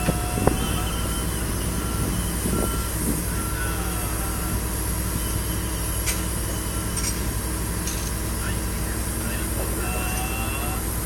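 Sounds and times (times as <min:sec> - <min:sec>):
high warning beeps: 0:00.0 - 0:10.9
heavy machinery engine humming: 0:00.0 - 0:11.0.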